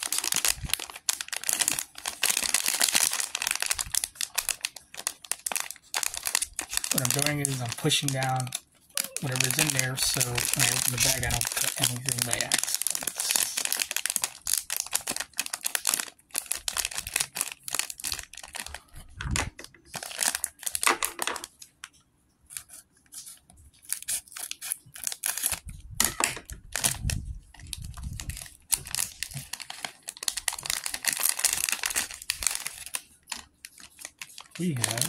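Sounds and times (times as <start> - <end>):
plastic bag crinkling: 0.0 - 35.0.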